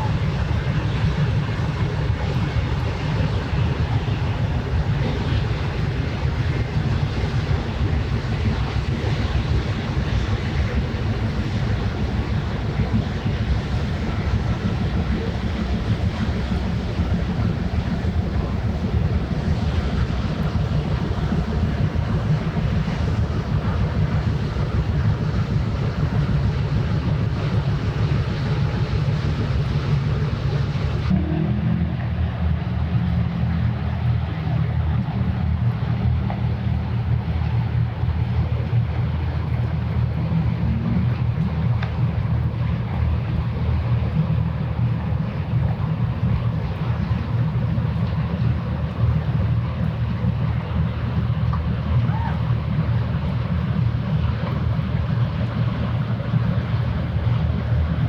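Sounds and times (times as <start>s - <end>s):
ship engine rumble: 0.0s - 58.0s
water noise: 0.0s - 58.0s
wind buffeting microphone: 0.0s - 58.0s.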